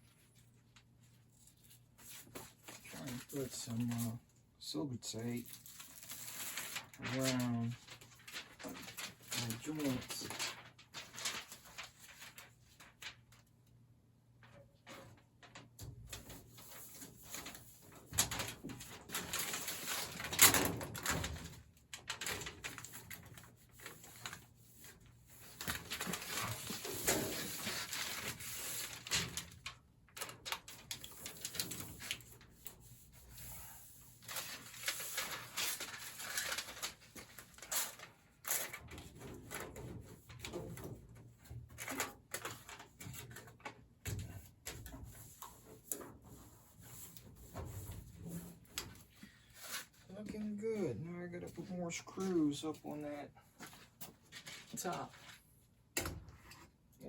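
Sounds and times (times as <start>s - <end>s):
foil tape crinkling: 0.2s - 4.2s, 5.2s - 13.5s, 14.5s - 50.4s.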